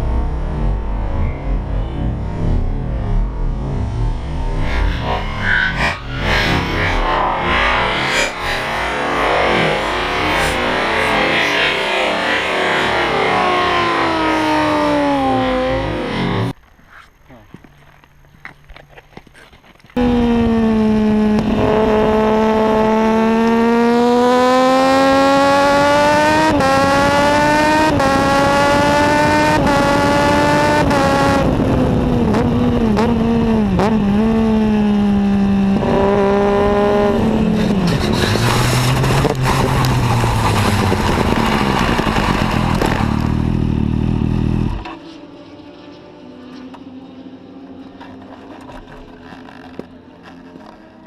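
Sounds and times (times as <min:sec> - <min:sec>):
motorcycle engine accelerating: 0:00.0 - 0:16.6, 0:19.8 - 0:51.0.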